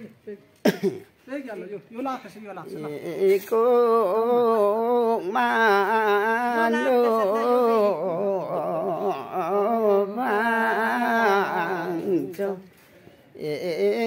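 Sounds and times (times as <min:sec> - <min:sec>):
person singing unaccompanied: 0:02.6 - 0:14.0.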